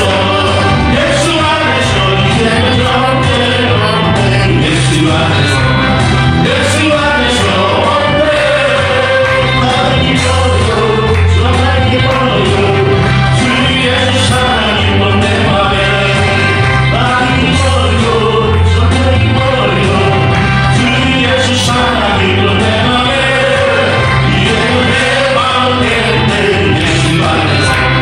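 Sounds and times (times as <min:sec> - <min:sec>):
instrumental accompaniment: 0:00.0 - 0:28.0
steady blocky bass line: 0:00.0 - 0:28.0
vocal ensemble singing gospel: 0:00.0 - 0:28.0.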